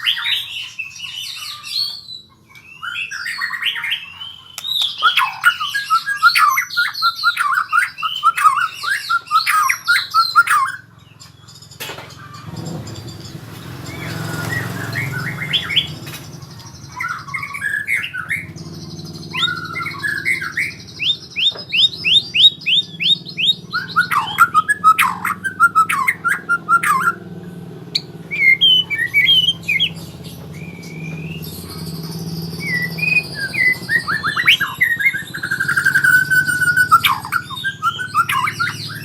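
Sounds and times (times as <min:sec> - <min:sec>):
bird singing whistled phrases: 0:00.0 - 0:11.6, 0:13.8 - 0:39.0.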